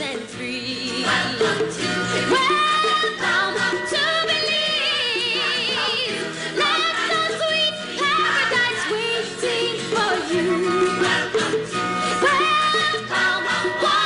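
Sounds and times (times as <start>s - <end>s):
sliding melodic lead line: 0.0s - 14.0s.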